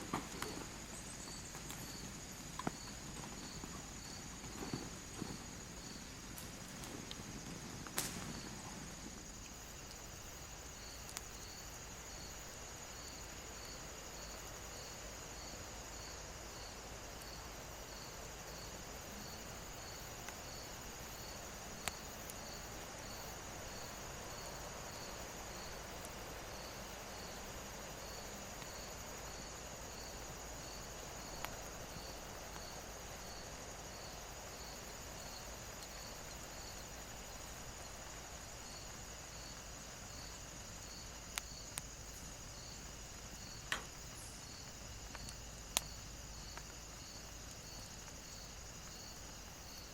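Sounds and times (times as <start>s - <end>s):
crickets chirping: 0.0s - 49.9s
high insect drone: 0.0s - 49.9s
soft even hiss: 0.0s - 49.9s.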